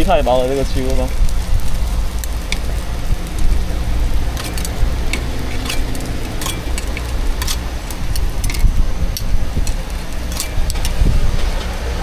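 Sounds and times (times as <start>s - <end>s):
steady low hum: 0.0s - 12.0s
metal spatula scraping griddle: 2.2s - 11.8s.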